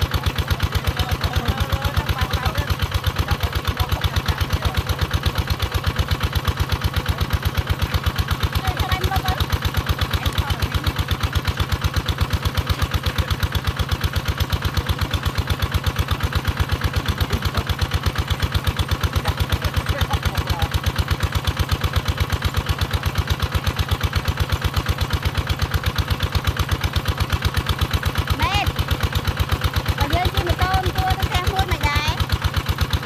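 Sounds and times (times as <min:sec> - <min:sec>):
small engine running a water pump: 0:00.0 - 0:33.0.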